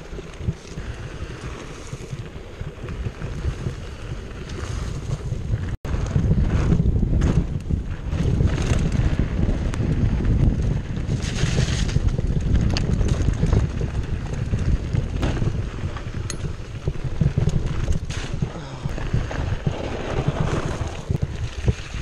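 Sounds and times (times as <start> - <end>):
bike clicks and rattles: 0.0 - 22.0
tyre rumble over dirt: 0.0 - 22.0
wind buffeting microphone: 0.0 - 22.0.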